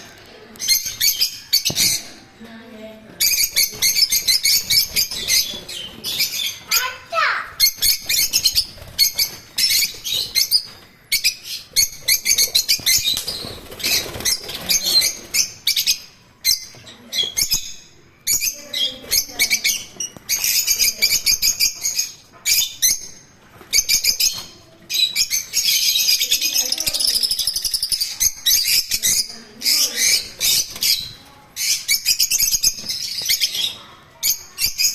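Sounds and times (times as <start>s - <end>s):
lovebirds chattering: 0.0s - 34.9s.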